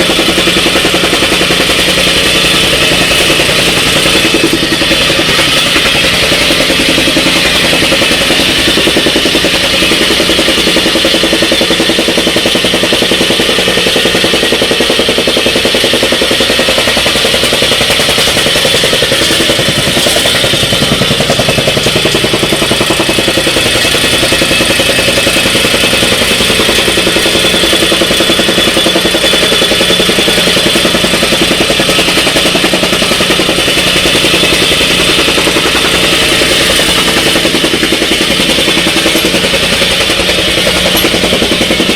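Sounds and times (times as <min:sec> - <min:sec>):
rammer foot pounding ground: 0:00.0 - 0:41.9
tamping rammer engine running: 0:00.0 - 0:41.9.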